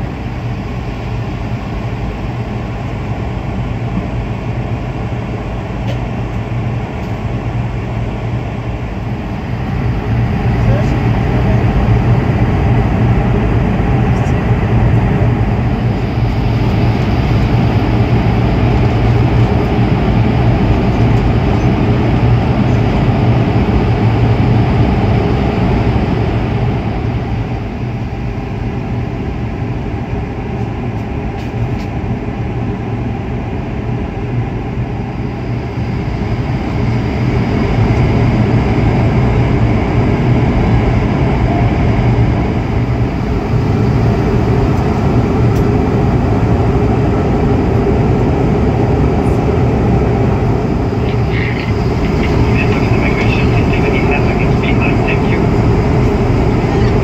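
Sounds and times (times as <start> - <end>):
rushing airflow: 0.0 - 30.9, 32.0 - 57.0
airliner cabin engine hum: 0.0 - 57.0.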